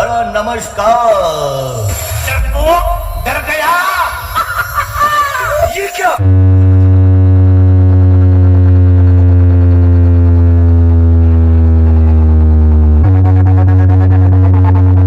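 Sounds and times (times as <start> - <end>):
loud synthesized bass drone: 0.0 - 15.0
pulsing synth pattern: 1.7 - 15.0.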